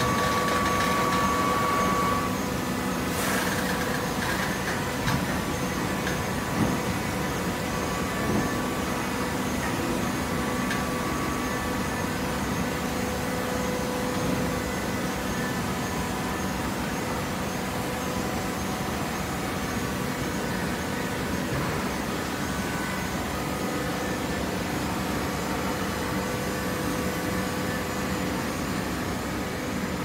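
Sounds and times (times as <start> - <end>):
baler machine hum: 0.0 - 30.0.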